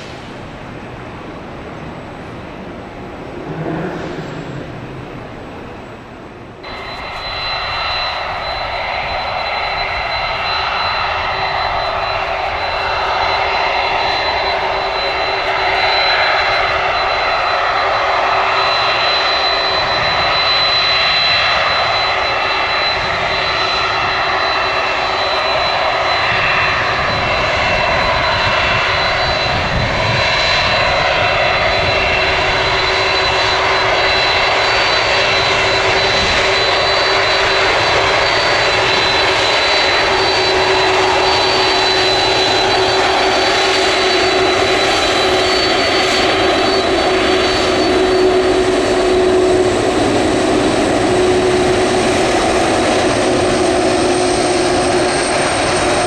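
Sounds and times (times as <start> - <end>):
jet engines roaring: 0.0 - 56.0
high whining tones: 3.2 - 56.0.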